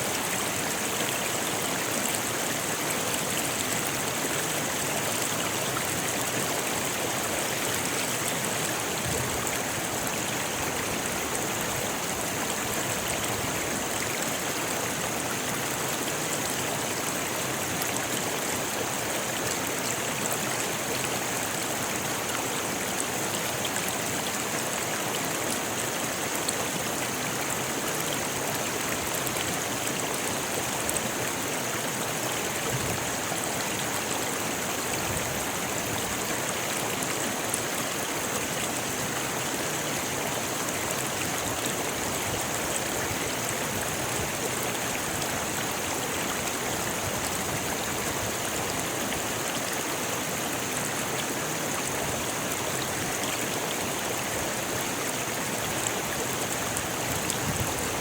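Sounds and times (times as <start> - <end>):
river water running over rocks: 0.0 - 58.0.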